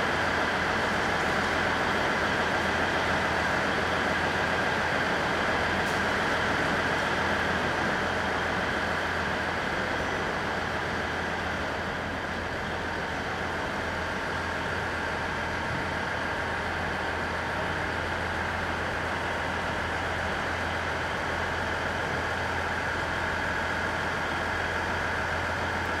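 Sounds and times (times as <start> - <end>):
idling electric train hum: 0.0 - 26.0.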